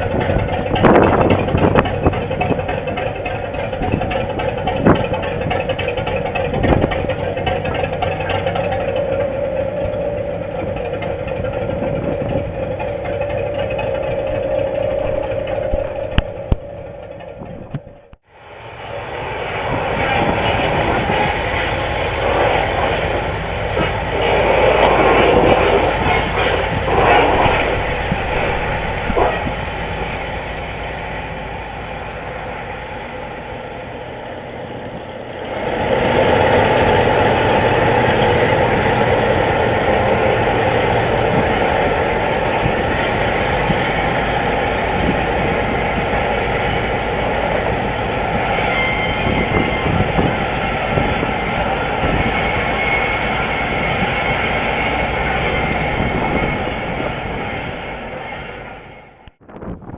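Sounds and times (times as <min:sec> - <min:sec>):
diesel locomotive drone: 0:00.0 - 0:59.9
rail and mechanical noise: 0:00.0 - 0:59.9.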